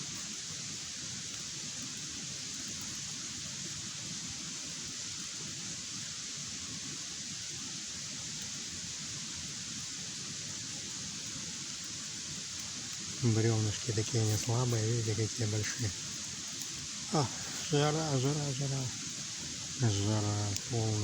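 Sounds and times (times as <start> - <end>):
campfire burning: 0.0 - 21.0.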